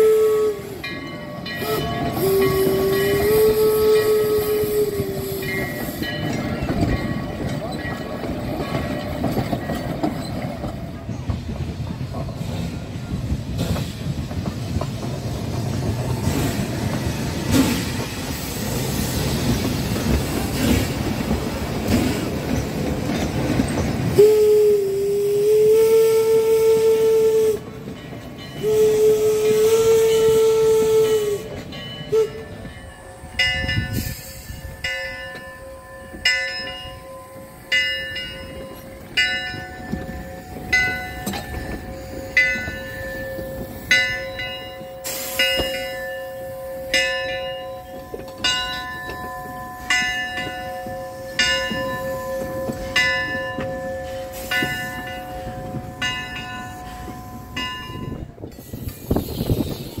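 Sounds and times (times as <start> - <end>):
steam locomotive bell ringing: 0.0 - 60.0.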